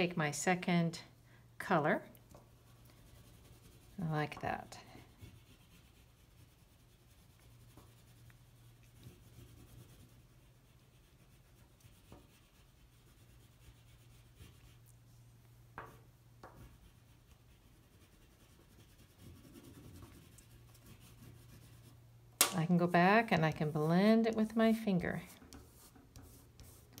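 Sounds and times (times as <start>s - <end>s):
low steady hum: 0.0s - 27.0s
pastel scratching on paper: 2.6s - 14.9s, 15.8s - 22.0s, 22.8s - 27.0s.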